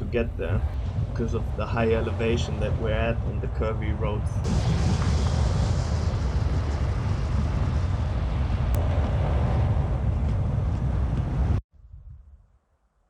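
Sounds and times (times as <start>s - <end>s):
heavy low buffeting: 0.0s - 11.6s
road noise: 0.0s - 11.6s
wind noise: 0.0s - 12.6s.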